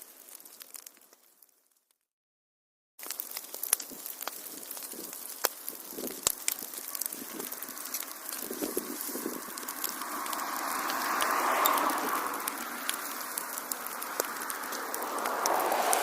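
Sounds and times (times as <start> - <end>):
fire popping: 0.0 - 2.0, 3.0 - 16.0
wood fire crackling: 0.0 - 2.0, 3.0 - 16.0
fire hissing: 3.0 - 16.0.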